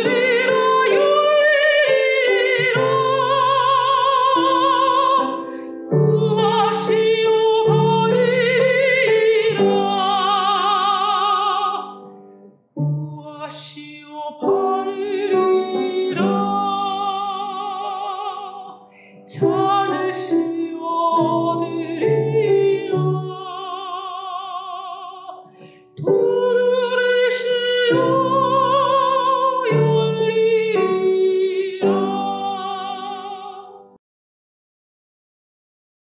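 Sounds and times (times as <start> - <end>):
woman singing a hymn: 0.0 - 12.1, 13.1 - 33.9
piano accompaniment: 0.0 - 34.0.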